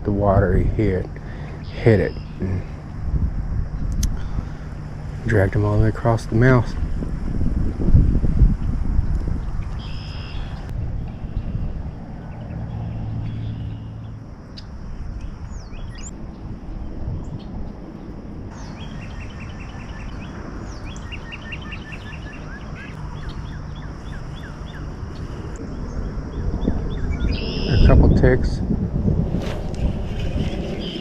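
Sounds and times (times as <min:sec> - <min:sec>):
songbirds chirping: 0:00.0 - 0:06.8, 0:09.2 - 0:28.5
wind rumble on microphone: 0:00.0 - 0:31.0.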